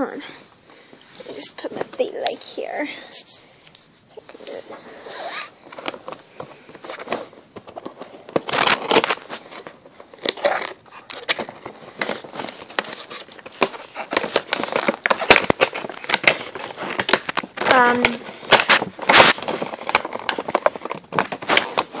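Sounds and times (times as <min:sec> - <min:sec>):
packaging rustling and crinkling: 0:00.9 - 0:22.0.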